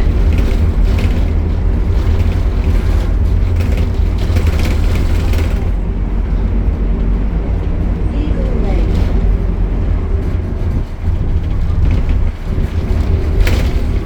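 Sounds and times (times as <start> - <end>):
bus body rattling and creaking: 0.0 - 14.0
bus diesel engine humming: 0.0 - 14.0.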